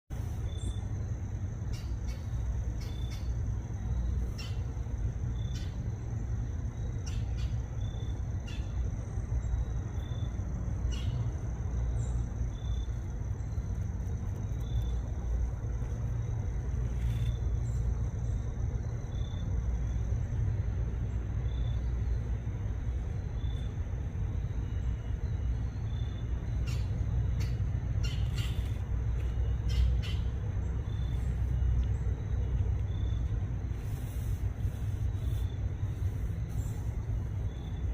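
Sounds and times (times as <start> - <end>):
low outdoor rumble: 0.1 - 37.9.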